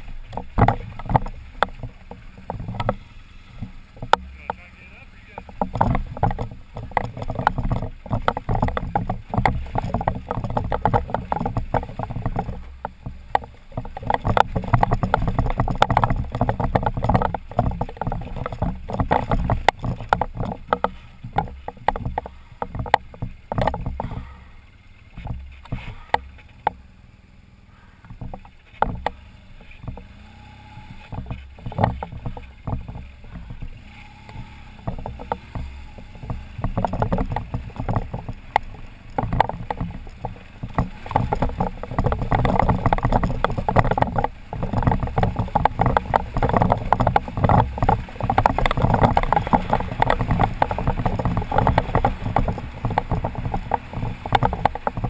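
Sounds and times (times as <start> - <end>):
tyres clattering over rocks: 0.0 - 26.9, 27.7 - 55.0
motorcycle engine at low revs: 0.0 - 55.0.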